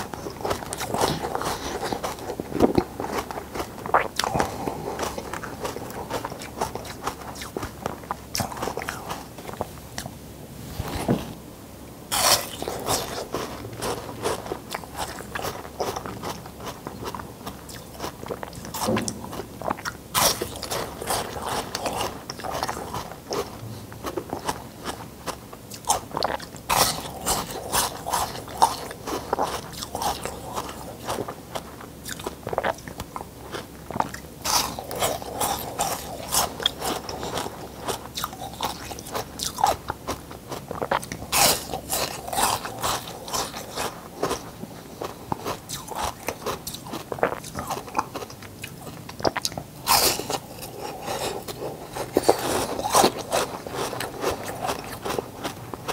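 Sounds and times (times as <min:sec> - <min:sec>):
ice crunching being chewed: 0:00.0 - 0:10.2, 0:12.1 - 0:55.9.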